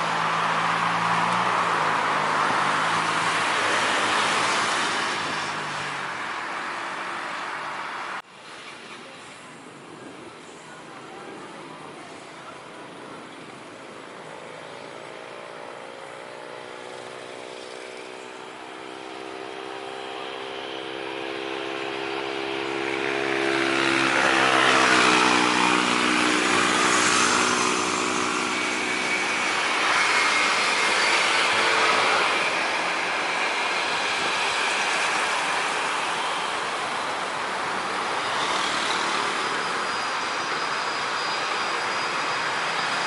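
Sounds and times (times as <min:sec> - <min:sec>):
airliner engines at takeoff power: 0:00.0 - 0:43.0.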